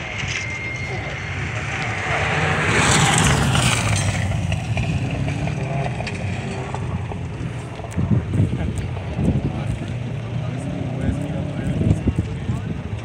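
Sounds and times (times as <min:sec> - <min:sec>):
rally car engine running hard: 0:00.0 - 0:13.0.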